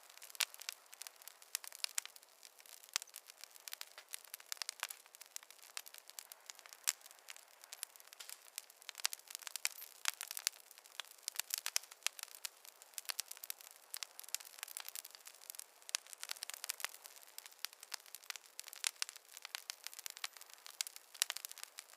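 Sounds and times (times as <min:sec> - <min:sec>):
faint hiss: 0:00.0 - 0:21.9
fire crackling: 0:00.0 - 0:21.9.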